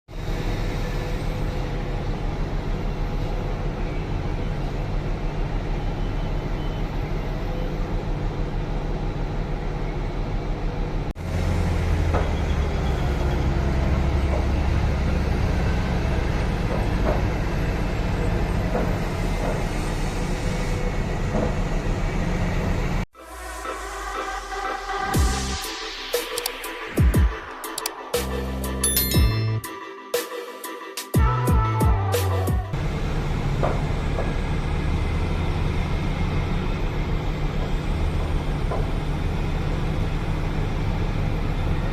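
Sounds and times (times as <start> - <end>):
deep engine sound: 0.1 - 29.6, 31.8 - 41.9
heavy diesel engines running: 0.1 - 29.6, 31.7 - 41.9.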